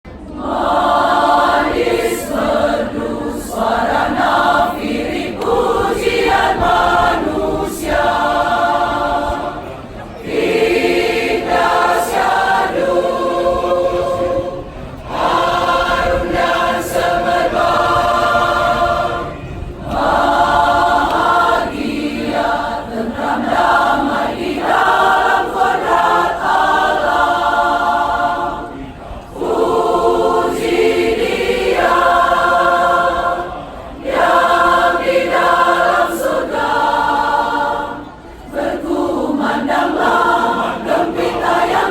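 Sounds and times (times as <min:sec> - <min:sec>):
church choir singing a hymn: 0:00.1 - 0:41.9.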